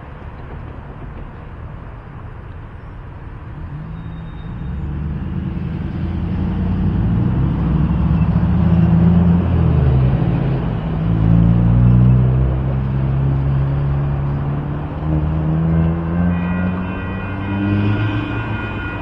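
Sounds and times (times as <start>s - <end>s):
heavy vehicle engine approaching: 0.0s - 19.0s.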